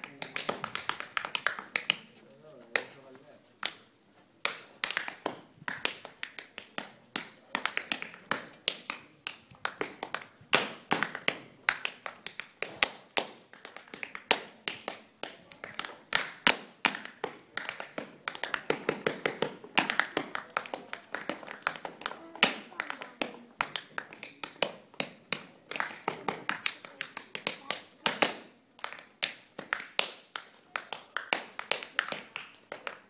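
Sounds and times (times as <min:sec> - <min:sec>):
hard-soled shoes tapping on floor: 0:04.4 - 0:33.0.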